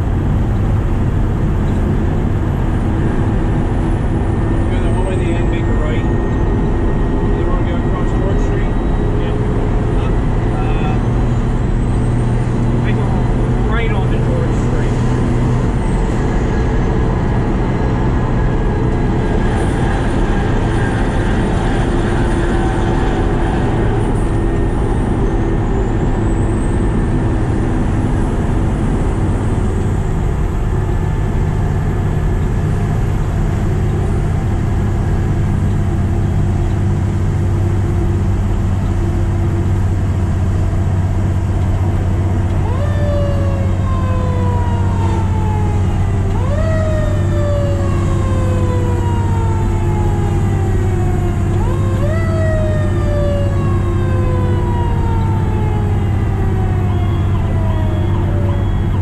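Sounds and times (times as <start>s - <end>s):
fire truck diesel engine: 0.0s - 59.0s
fire truck siren: 0.0s - 59.0s
road noise: 0.0s - 59.0s.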